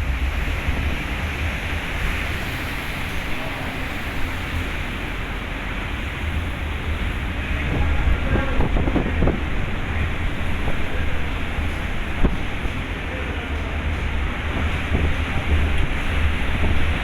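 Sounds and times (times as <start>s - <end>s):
rough sea waves rushing: 0.0s - 17.0s
wind buffeting microphone: 0.0s - 17.0s.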